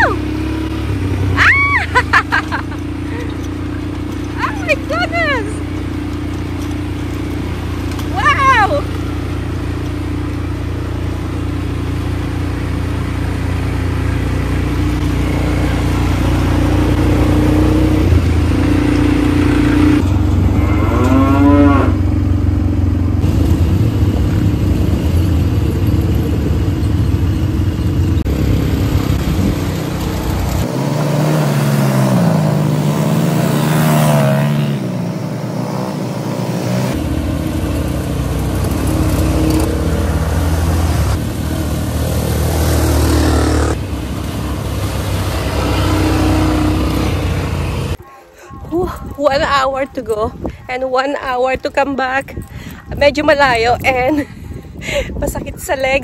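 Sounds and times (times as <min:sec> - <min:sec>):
quad bike engines revving: 0:00.0 - 0:56.0.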